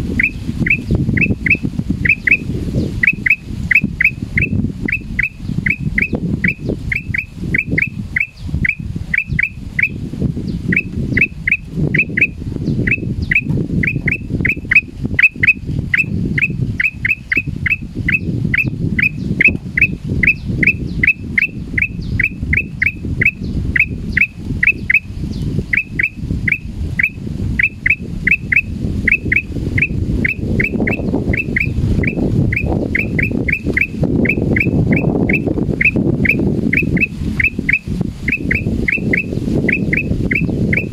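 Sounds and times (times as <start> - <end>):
steady low rumble: 0.0 - 40.9
bird alarm calls: 0.1 - 40.9.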